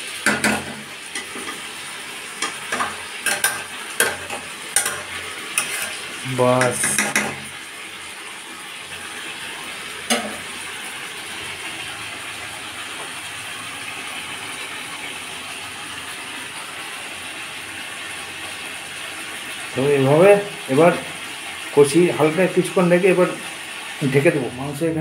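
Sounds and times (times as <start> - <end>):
food sizzling in oil: 0.0 - 24.8.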